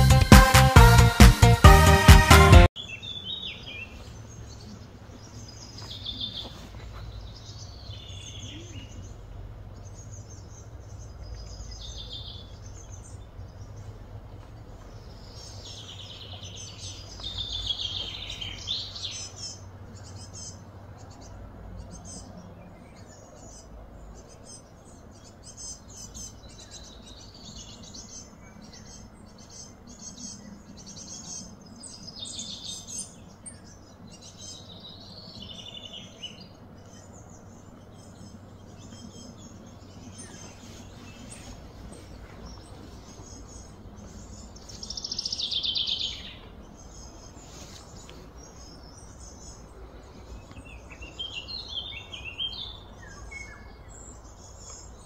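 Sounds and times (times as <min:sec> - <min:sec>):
birds chirping: 0:00.0 - 0:55.0
low background rumble: 0:06.9 - 0:55.0.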